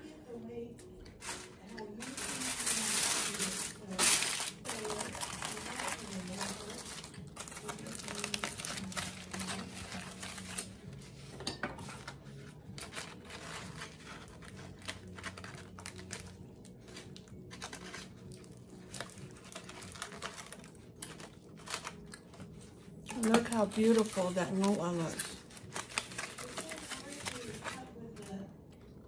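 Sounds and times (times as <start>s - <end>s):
aluminium foil crinkling: 1.0s - 28.5s.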